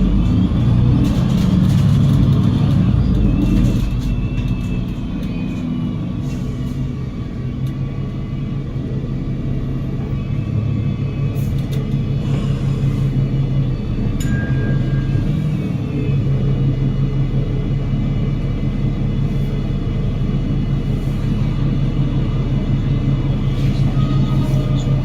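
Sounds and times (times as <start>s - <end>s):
bus diesel engine: 0.0s - 25.0s.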